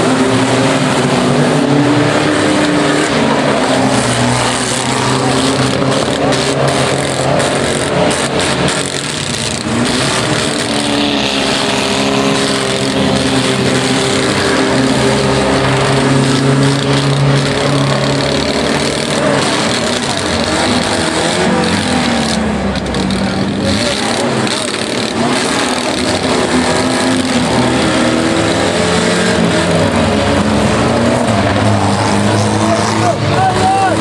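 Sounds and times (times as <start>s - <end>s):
racing car engines revving: 0.0s - 34.0s.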